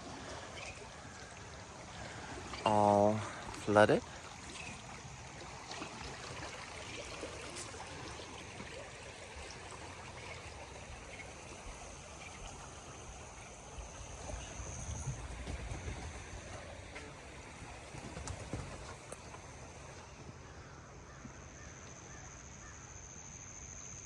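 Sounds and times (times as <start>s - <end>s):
river water flowing: 0.0s - 23.2s.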